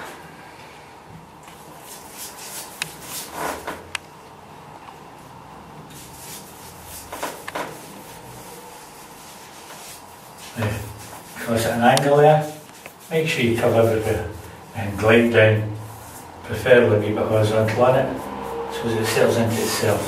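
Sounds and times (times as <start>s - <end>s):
paintbrush swishing on wood: 1.6s - 3.8s, 5.9s - 20.0s.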